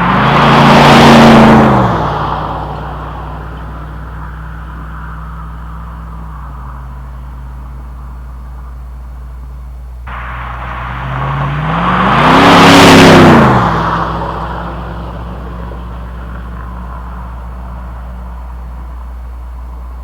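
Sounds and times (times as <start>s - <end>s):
engine idling and revving: 0.0s - 20.0s.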